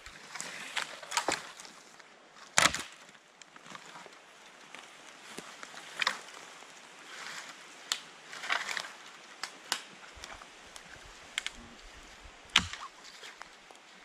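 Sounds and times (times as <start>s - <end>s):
dry branches cracking and snapping: 0.0s - 14.0s.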